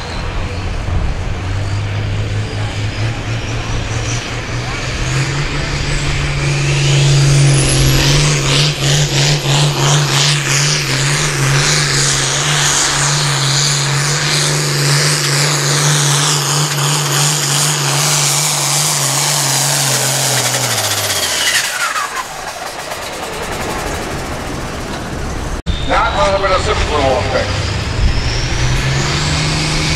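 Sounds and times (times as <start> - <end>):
diesel tractor engine at full throttle: 0.0 - 29.9
turbo whine: 0.0 - 29.9.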